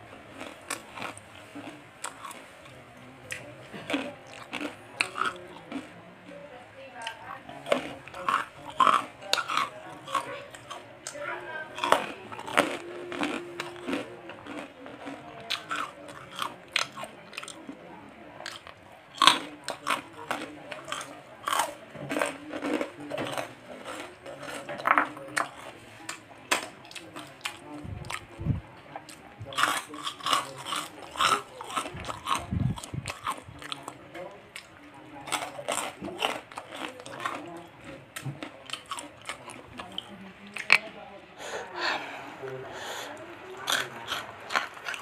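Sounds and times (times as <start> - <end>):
crackers crunching: 0.1 - 6.4, 7.0 - 17.8, 18.4 - 28.4, 29.0 - 40.9, 42.3 - 45.0.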